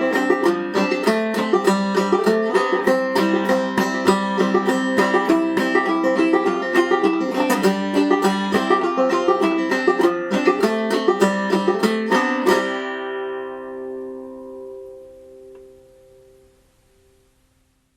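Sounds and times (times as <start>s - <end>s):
banjo plucked old-time tune: 0.0s - 16.1s.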